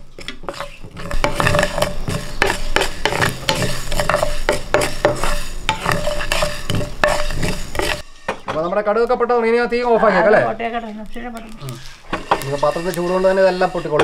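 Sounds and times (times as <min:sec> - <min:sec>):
wooden spatula stirring: 0:00.0 - 0:10.2, 0:10.8 - 0:14.0
seeds rattling in a pan: 0:00.4 - 0:10.2, 0:10.8 - 0:14.0.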